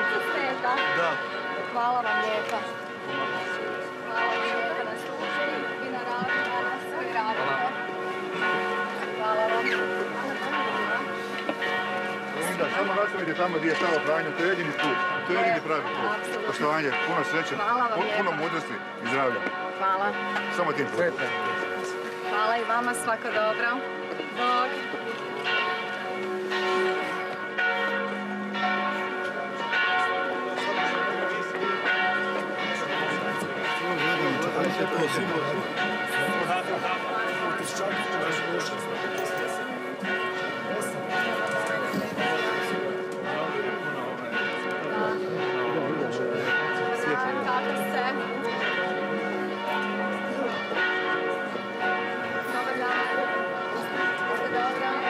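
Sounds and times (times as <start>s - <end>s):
church bells pealing: 0.0s - 55.0s
people's voices in street: 0.0s - 55.0s.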